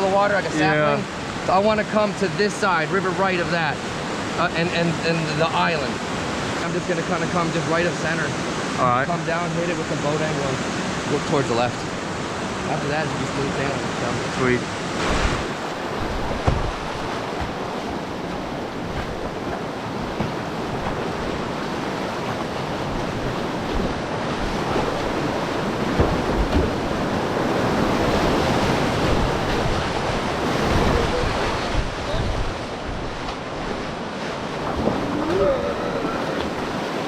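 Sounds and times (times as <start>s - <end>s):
river rapids rushing: 0.0s - 37.0s.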